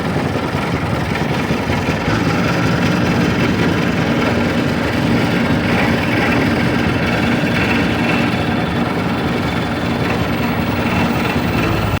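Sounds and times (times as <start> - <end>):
machine motor running: 1.6 - 12.0.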